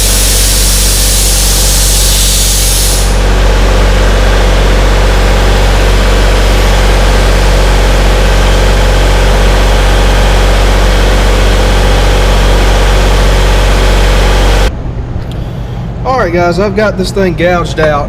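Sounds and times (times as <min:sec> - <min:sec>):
arc gouging hissing roar: 0:00.0 - 0:14.7
low machine hum: 0:00.0 - 0:18.0.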